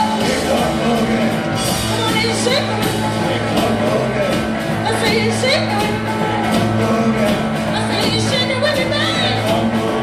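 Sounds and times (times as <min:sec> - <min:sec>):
bass line: 0:00.0 - 0:10.0
blues-rock band playing: 0:00.0 - 0:10.0
steady drum beat: 0:00.0 - 0:10.0.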